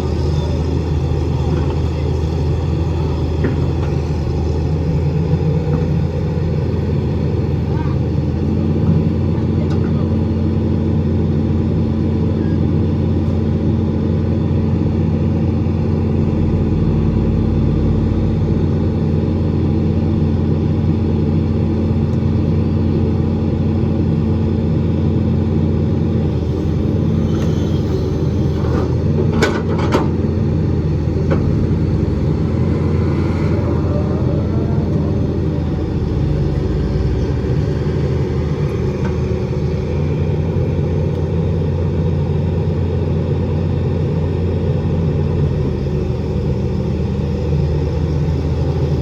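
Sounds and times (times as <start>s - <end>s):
excavator diesel engine humming: 0.0s - 49.0s.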